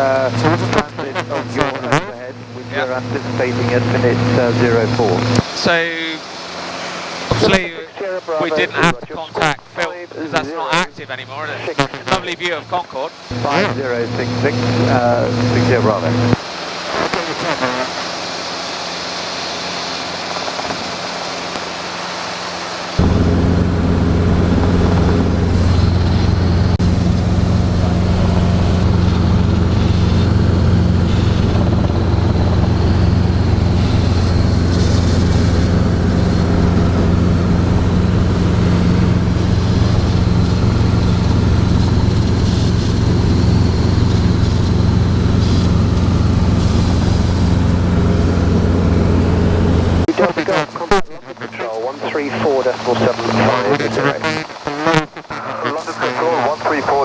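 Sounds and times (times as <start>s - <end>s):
helicopter engine and rotor drone: 0.0s - 50.6s, 55.7s - 57.0s.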